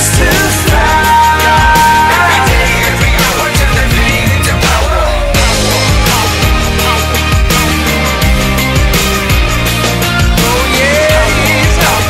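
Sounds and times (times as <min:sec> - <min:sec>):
instrumental music with drums and bass: 0:00.0 - 0:12.0.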